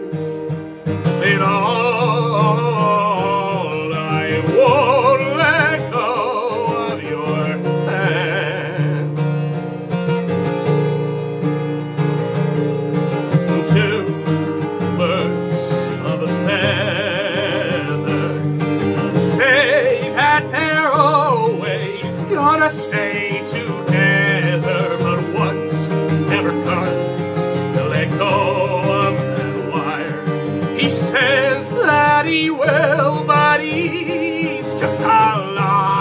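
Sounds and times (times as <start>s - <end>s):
acoustic guitar: 0.0s - 36.0s
man singing with vibrato: 1.0s - 9.6s, 13.1s - 36.0s.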